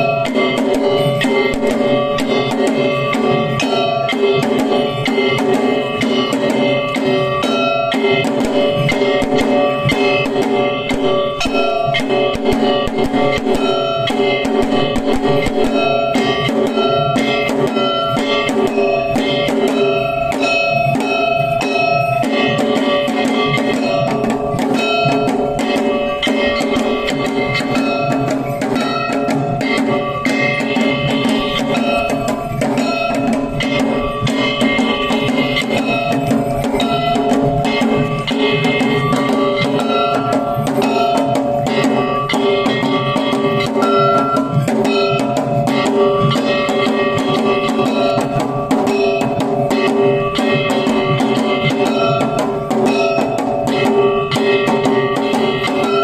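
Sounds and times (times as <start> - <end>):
rapid drum strokes: 0.0 - 56.0
steady ringing tones: 0.0 - 56.0.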